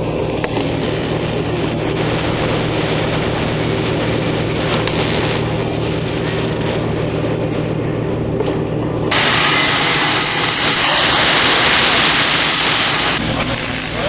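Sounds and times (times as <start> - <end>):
arc welding crackling hiss: 0.0 - 7.8, 9.1 - 14.0
low electrical hum: 0.0 - 14.0.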